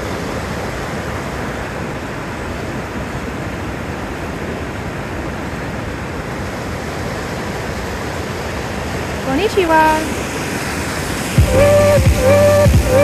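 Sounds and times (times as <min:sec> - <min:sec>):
river rushing over rapids: 0:00.0 - 0:13.0.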